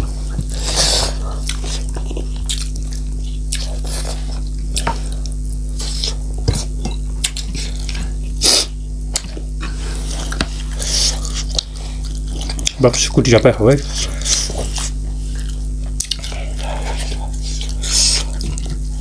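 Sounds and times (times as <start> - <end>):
steady low hum: 0.0 - 19.0
wet chewing: 0.3 - 12.8, 13.8 - 19.0.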